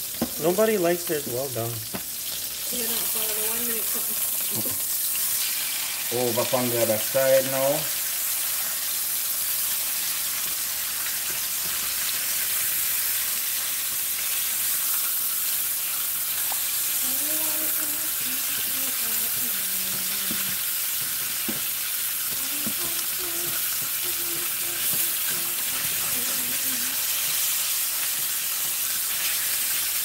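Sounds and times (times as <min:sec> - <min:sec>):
steaks sizzling in a frying pan: 0:00.0 - 0:30.0.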